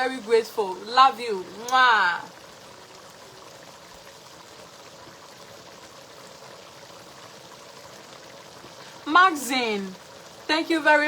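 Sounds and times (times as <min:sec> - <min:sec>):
stew simmering in a pot: 0:00.0 - 0:11.0.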